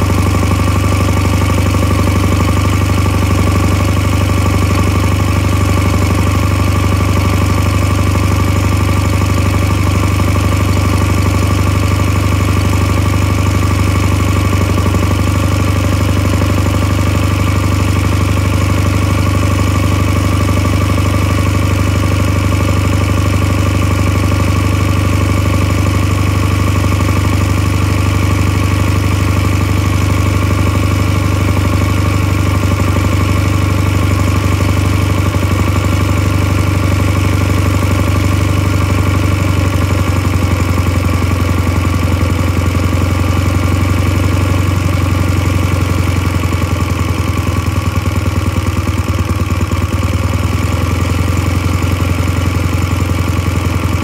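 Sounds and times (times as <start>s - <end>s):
stationary engine idling: 0.0s - 54.0s.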